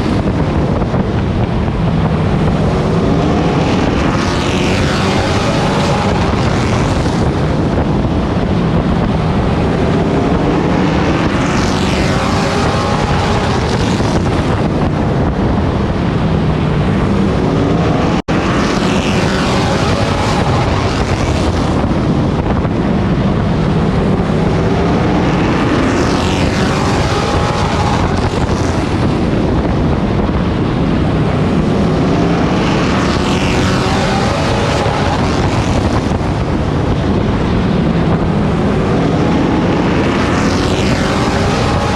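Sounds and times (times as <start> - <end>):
wind noise: 0.0 - 41.9.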